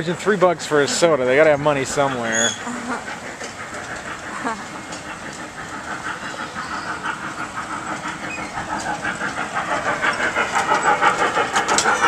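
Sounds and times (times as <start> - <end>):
amusement train passing: 0.0 - 12.0.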